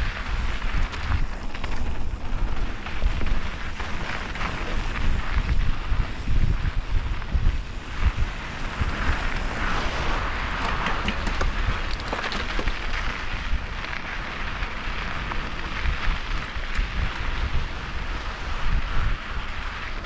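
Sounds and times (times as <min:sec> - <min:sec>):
bike clicks and rattles: 0:00.0 - 0:20.0
bike tyres crunching over gravel: 0:00.0 - 0:20.0
wind buffeting microphone: 0:00.0 - 0:20.0.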